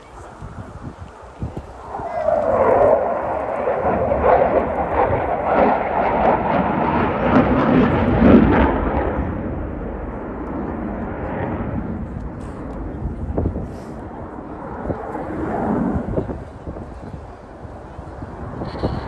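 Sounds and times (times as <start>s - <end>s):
jet roar passing: 0.1s - 19.0s.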